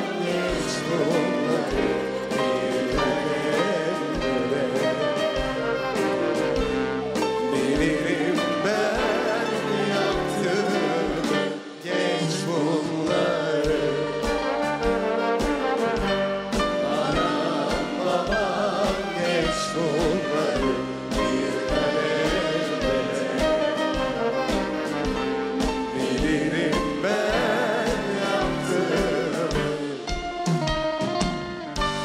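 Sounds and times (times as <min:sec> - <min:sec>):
man and woman singing duet: 0:00.0 - 0:06.2, 0:07.4 - 0:15.2, 0:16.8 - 0:30.3
live band with brass and strings: 0:00.0 - 0:32.0.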